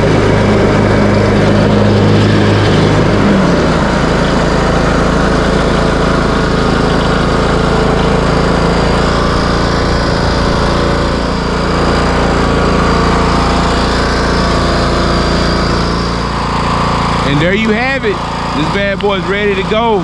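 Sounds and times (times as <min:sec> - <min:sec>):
riding mower engine running: 0:00.0 - 0:20.0.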